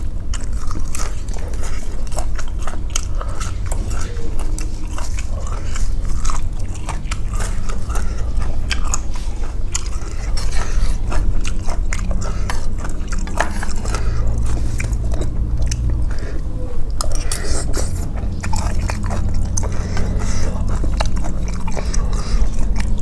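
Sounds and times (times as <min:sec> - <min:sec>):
low steady hum: 0:00.0 - 0:23.0
person chewing noodle soup: 0:00.0 - 0:23.0
wet mouth clicks: 0:00.0 - 0:23.0.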